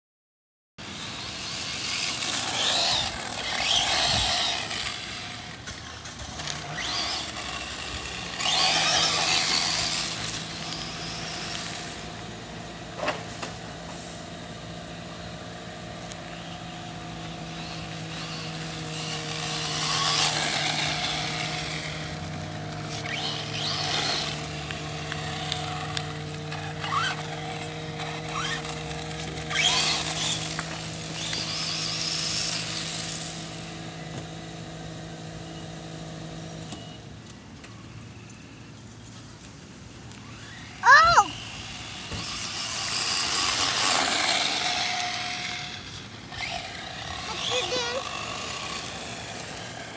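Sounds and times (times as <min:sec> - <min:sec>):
electric motor whining: 0:00.8 - 0:38.8, 0:40.0 - 0:49.9
steady low hum: 0:00.8 - 0:49.9.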